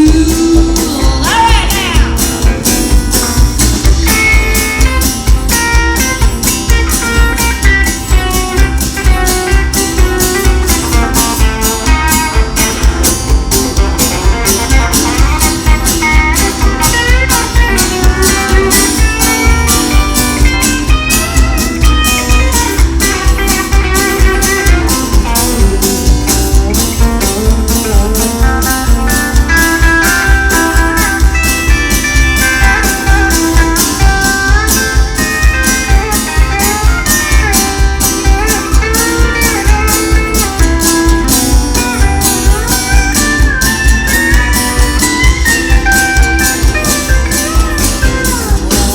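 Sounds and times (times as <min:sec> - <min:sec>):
bluesy guitar: 0:00.0 - 0:48.9
steady drum beat: 0:00.0 - 0:48.9.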